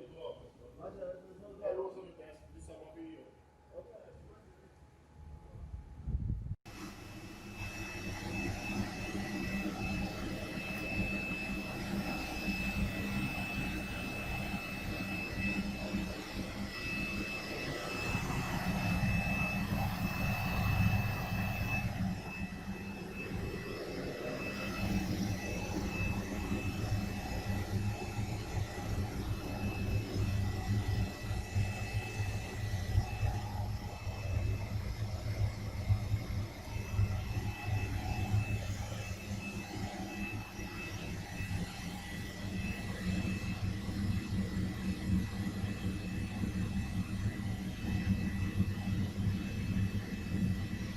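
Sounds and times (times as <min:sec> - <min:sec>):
thin high whine: 0:05.4 - 0:50.9
boiler burner roaring: 0:06.1 - 0:50.9.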